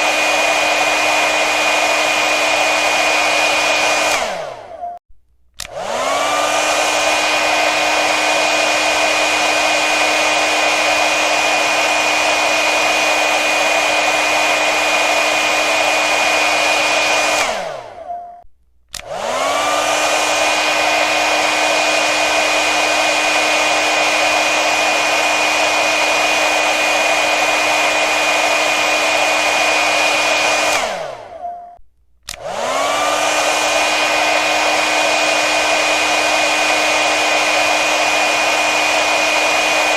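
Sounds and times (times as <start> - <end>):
hair dryer blowing: 0.0 - 5.0, 5.6 - 18.2, 18.9 - 31.5, 32.2 - 39.9.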